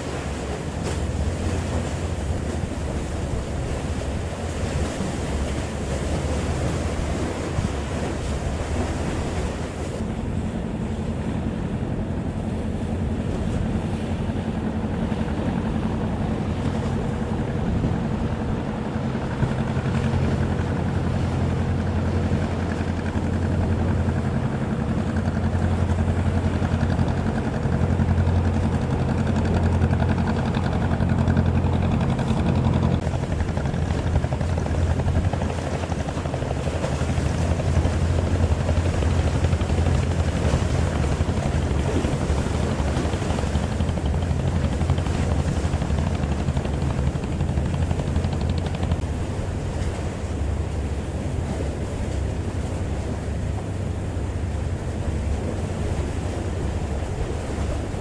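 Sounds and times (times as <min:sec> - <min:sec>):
boat engine humming: 0:00.0 - 0:58.0
sea water: 0:00.0 - 0:58.0
wind on microphone: 0:11.4 - 0:58.0.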